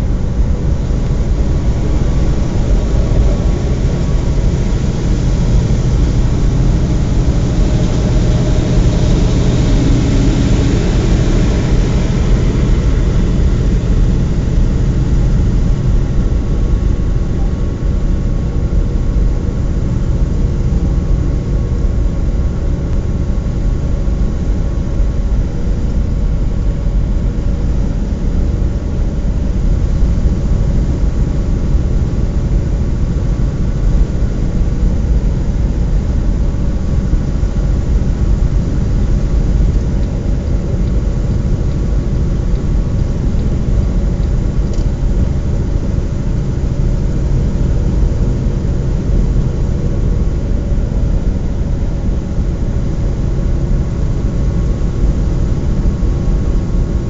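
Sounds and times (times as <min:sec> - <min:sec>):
road rumble: 0:00.0 - 0:57.0
vehicle engine drone: 0:00.0 - 0:57.0.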